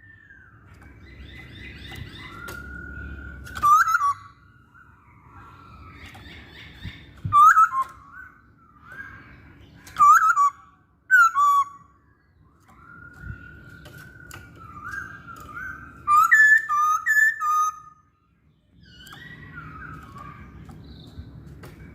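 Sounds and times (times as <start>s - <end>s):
bird whistling song: 0.0s - 21.9s.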